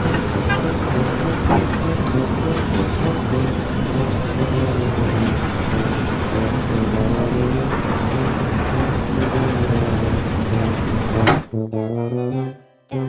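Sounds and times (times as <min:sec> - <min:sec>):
dense noisy background: 0:00.0 - 0:11.4
engine humming: 0:00.0 - 0:11.6.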